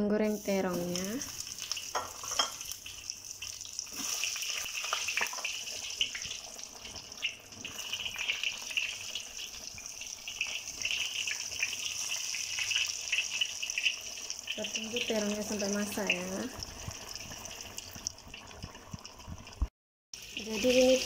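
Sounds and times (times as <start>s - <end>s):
eggplant sizzling in hot oil: 0.0s - 21.0s.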